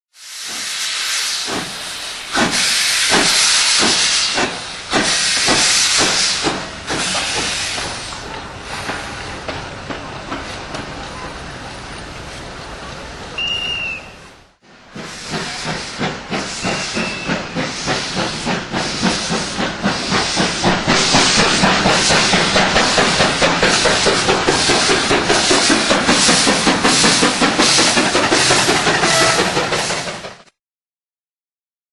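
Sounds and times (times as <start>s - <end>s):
steam locomotive hissing steam: 0.1s - 11.3s, 13.3s - 30.5s
steam locomotive exhaust chuffs: 0.2s - 10.8s, 14.9s - 30.5s.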